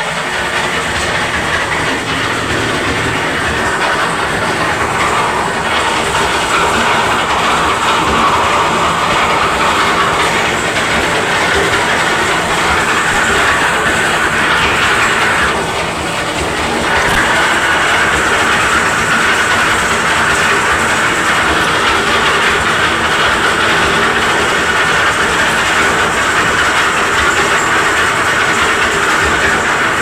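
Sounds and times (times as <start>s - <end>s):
concrete mixer drum rattling: 0.0s - 30.0s.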